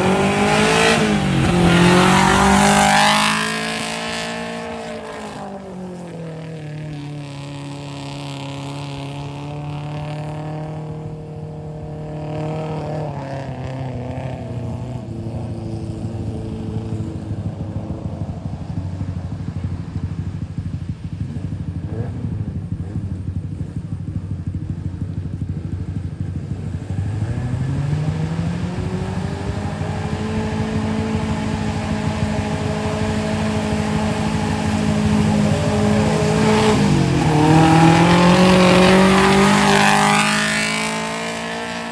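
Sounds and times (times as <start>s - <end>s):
vehicle engine running under load: 0.0s - 41.9s.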